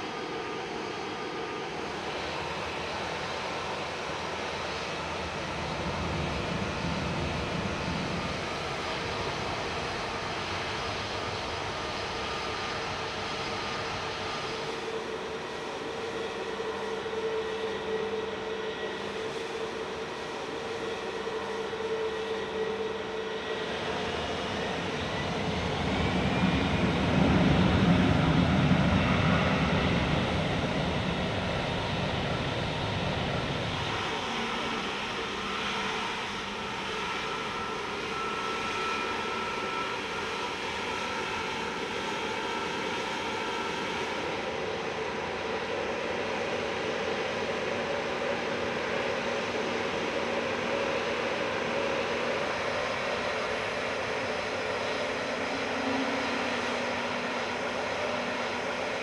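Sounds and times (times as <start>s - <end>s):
jet plane engines passing: 0.1s - 59.0s.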